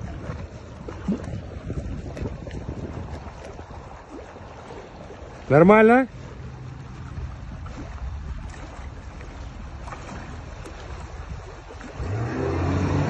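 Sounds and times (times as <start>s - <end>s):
motorboat engine idling and revving: 0.0s - 13.0s.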